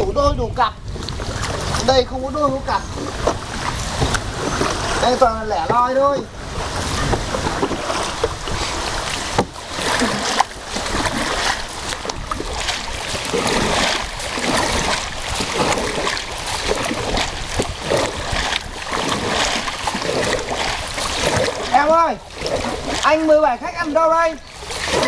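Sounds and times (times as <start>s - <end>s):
water splashing around boat: 0.0s - 25.0s.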